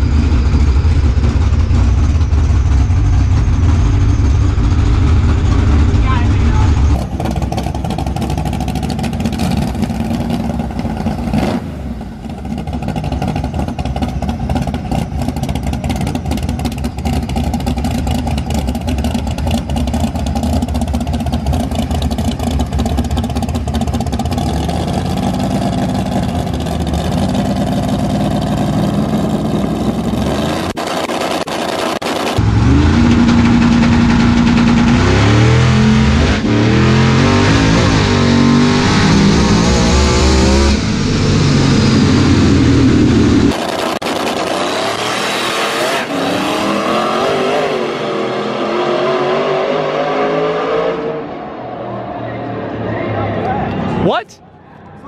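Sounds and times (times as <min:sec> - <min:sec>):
racing car engines at full throttle: 0:00.0 - 0:55.0.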